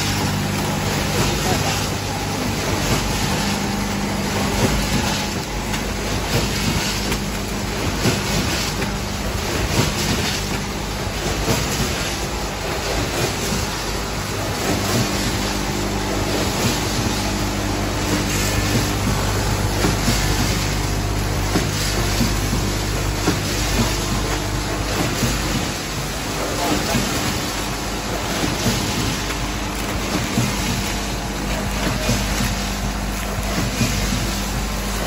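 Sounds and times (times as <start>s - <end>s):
machine clatter: 0.0s - 35.0s
packaging machine humming: 0.0s - 35.0s.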